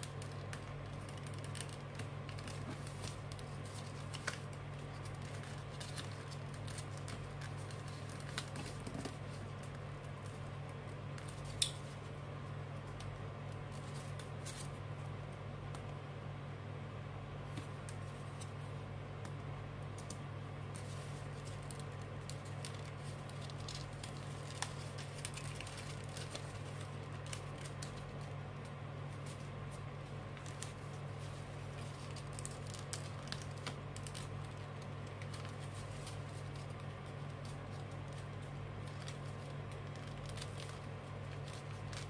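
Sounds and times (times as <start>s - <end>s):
paper rustling and crinkling: 0.0s - 12.2s, 12.8s - 14.8s, 20.0s - 42.0s
steady low hum: 0.0s - 42.0s.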